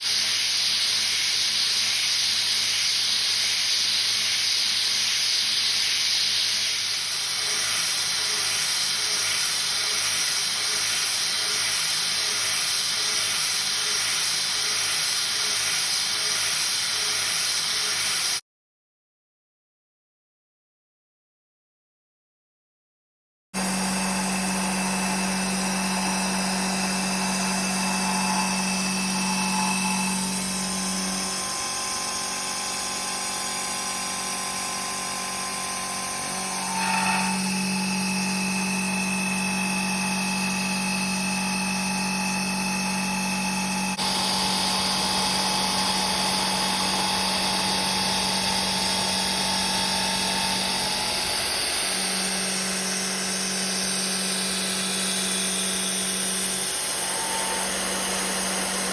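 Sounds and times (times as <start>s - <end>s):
milling machine whine: 0.1s - 18.4s, 23.6s - 58.9s.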